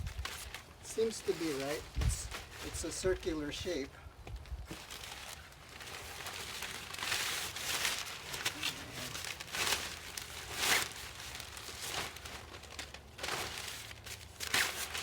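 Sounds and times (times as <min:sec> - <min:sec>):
tent fabric rustling and crinkling: 0:00.0 - 0:03.8, 0:04.6 - 0:15.0.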